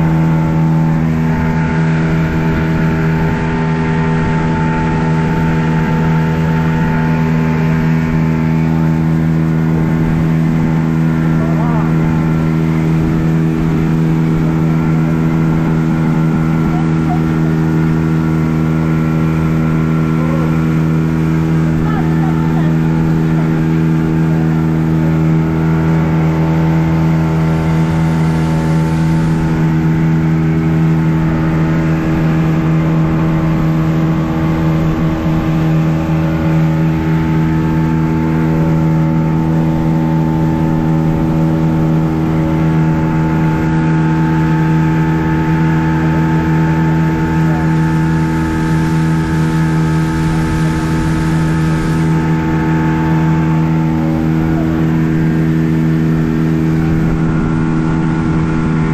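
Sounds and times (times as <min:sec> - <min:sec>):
outboard motor running: 0:00.0 - 0:58.9.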